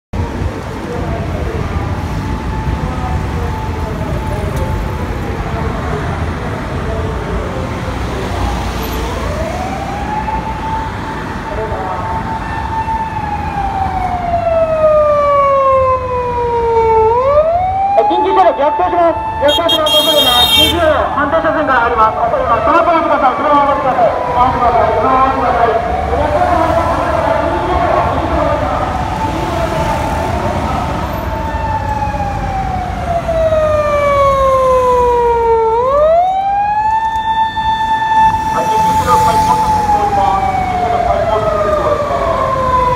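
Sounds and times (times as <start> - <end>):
low traffic rumble: 0.2 - 42.9
police siren wailing: 0.2 - 42.9.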